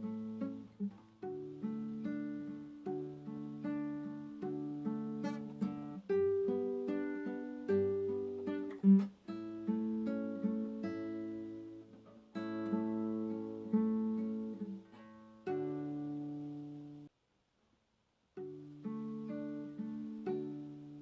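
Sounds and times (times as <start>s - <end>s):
fingerpicked acoustic guitar: 0.0s - 17.1s, 18.3s - 21.0s.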